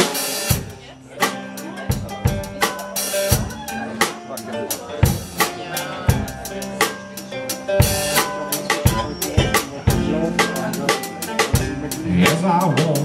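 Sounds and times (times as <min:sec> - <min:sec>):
acoustic guitar chords: 0:00.0 - 0:13.0
drum kit beat: 0:00.0 - 0:13.0.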